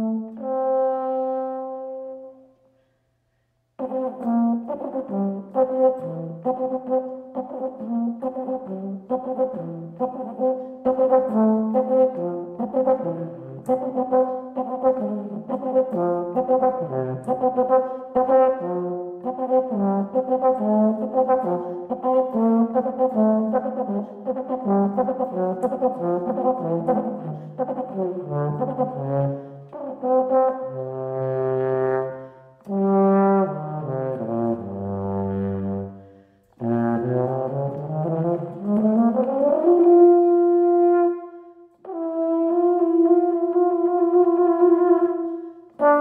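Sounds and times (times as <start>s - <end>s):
solo euphonium melody: 0.0s - 2.6s, 3.8s - 46.0s.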